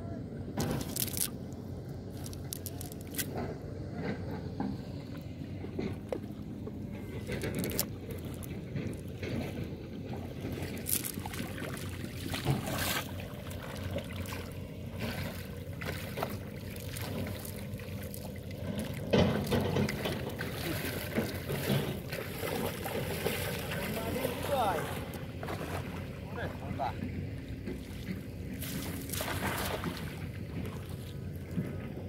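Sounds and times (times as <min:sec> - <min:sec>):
river water splashing: 0:00.5 - 0:32.0.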